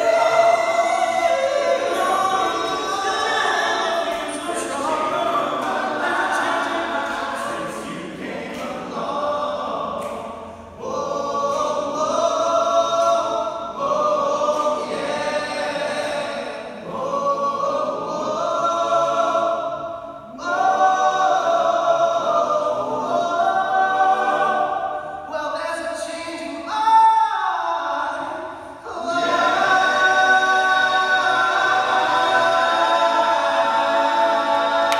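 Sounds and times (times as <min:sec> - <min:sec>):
male a cappella group singing: 0:00.0 - 0:34.9.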